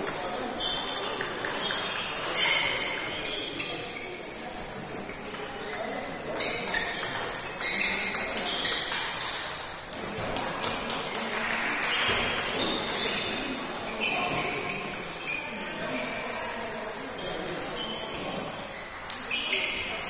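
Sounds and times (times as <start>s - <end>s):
table tennis balls clicking: 0.0s - 20.0s.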